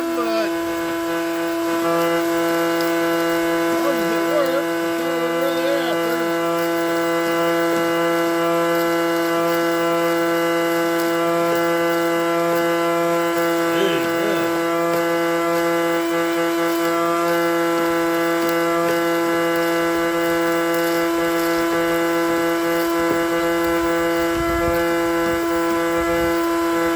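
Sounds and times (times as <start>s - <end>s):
blower fan whining: 0.0s - 26.9s.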